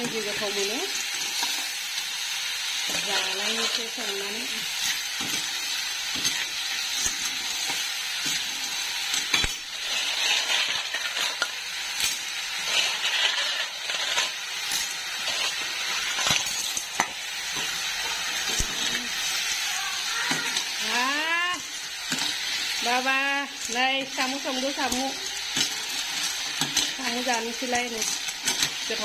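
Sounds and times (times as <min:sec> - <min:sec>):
snails sizzling in a wok: 0:00.0 - 0:29.0.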